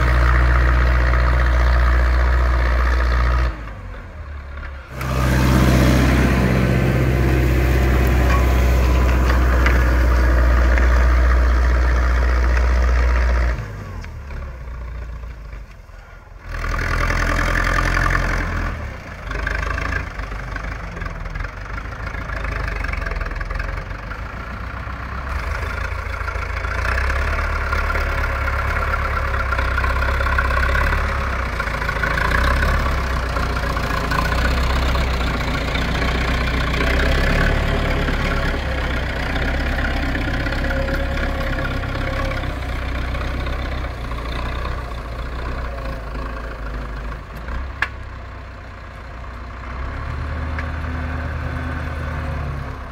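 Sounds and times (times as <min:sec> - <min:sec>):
tractor diesel engine rumbling: 0:00.0 - 0:52.9.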